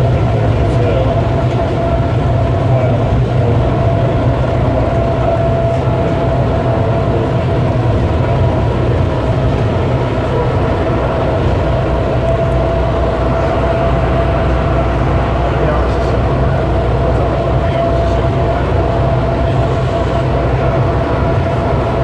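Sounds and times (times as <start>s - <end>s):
tram rumbling in a tunnel: 0.0s - 22.0s.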